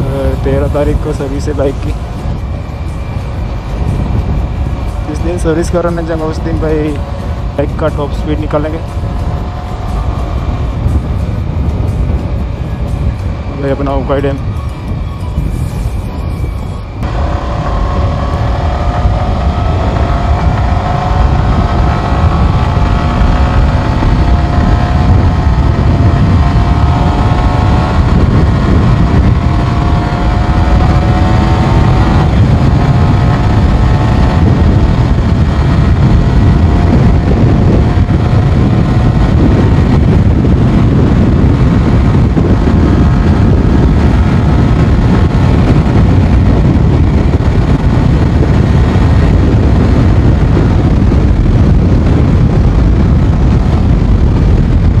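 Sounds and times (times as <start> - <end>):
motorcycle engine accelerating hard: 0.0 - 15.8, 17.0 - 55.0
wind rush on microphone: 0.0 - 55.0.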